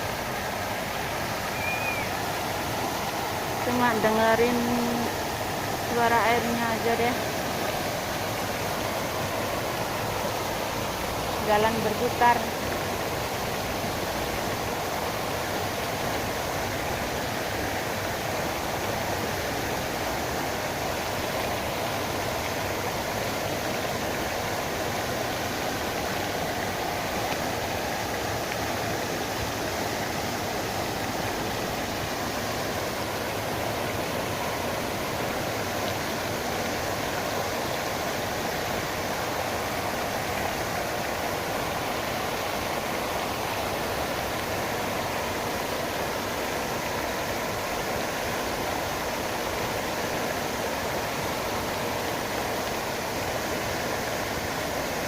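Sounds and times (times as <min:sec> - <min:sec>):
fountain water rushing: 0:00.0 - 0:55.0.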